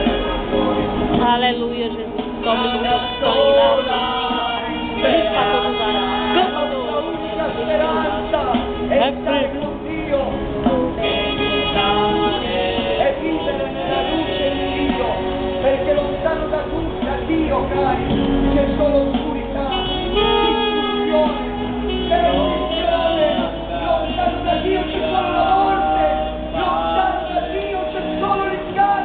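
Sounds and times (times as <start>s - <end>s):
instrumental backing music: 0.0s - 29.0s
man singing gospel: 2.2s - 29.0s.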